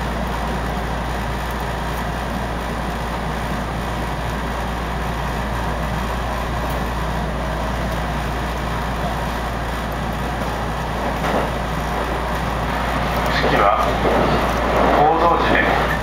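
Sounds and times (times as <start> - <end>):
low hum of train car: 0.0 - 16.0
train wheels rolling on rails: 0.0 - 16.0.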